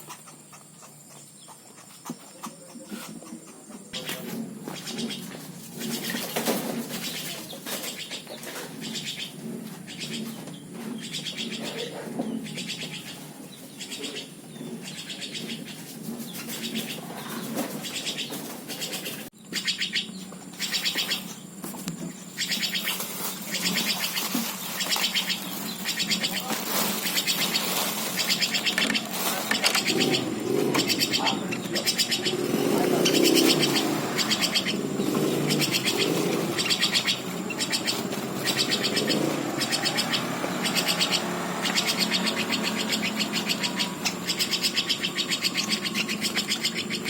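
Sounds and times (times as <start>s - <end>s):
woodpecker chick begging calls: 0.0s - 6.3s, 6.9s - 21.5s, 22.2s - 47.0s.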